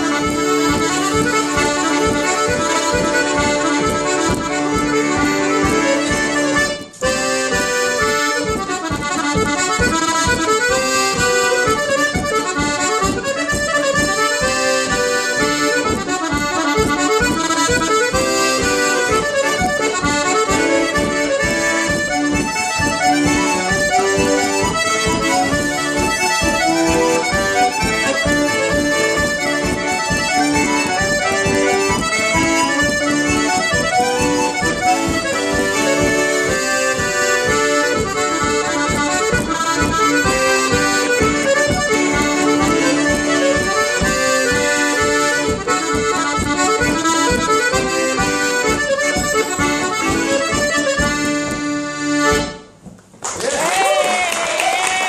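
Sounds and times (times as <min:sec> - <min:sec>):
accordion dance tune: 0:00.0 - 0:53.4.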